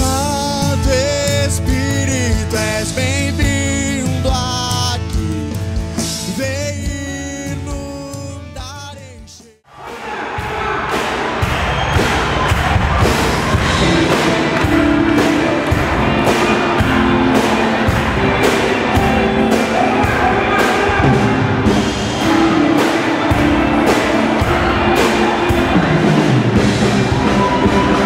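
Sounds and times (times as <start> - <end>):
upbeat music with drum beat: 0.0 - 28.0.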